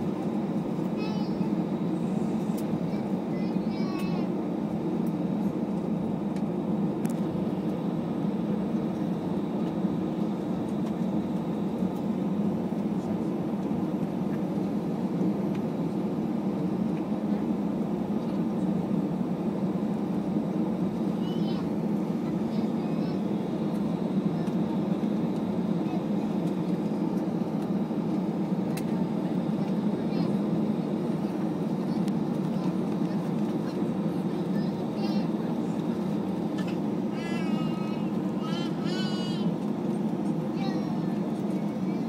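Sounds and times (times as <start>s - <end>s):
airplane cabin engine drone: 0.0s - 42.0s.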